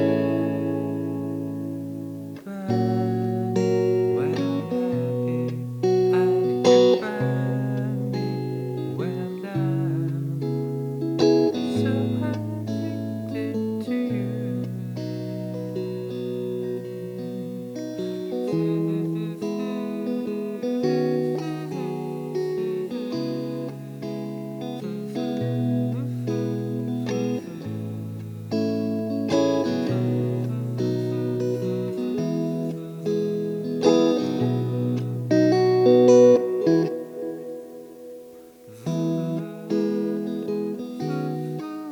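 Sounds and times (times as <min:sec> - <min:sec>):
strummed guitar with delay: 0:00.0 - 0:41.9.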